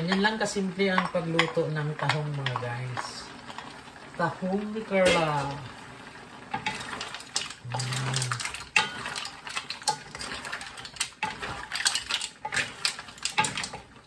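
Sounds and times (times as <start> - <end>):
mussel shells clacking in a wok: 0.0 - 14.0.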